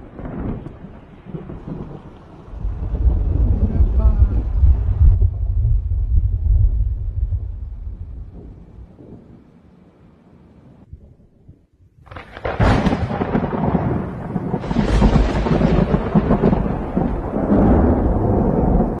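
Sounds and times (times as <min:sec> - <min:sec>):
thunderclap crash: 0:00.0 - 0:09.5, 0:12.0 - 0:19.0
thunder rumbling: 0:00.0 - 0:19.0.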